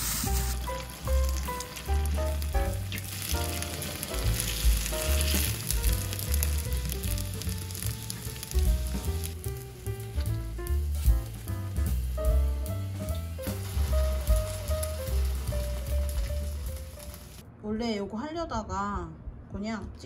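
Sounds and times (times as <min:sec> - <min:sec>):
background music: 0:00.0 - 0:17.4
food deep-frying in sizzling oil: 0:00.0 - 0:17.4.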